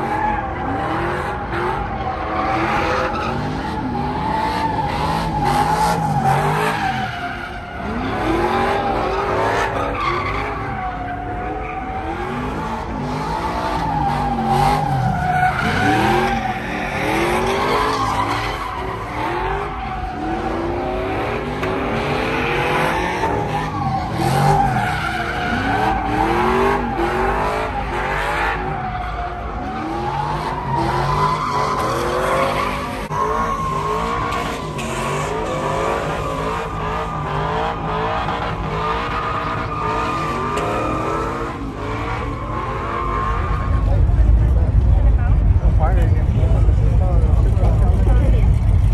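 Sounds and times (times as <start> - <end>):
tires squealing: 0.0 - 48.9
truck engine revving: 0.0 - 48.9.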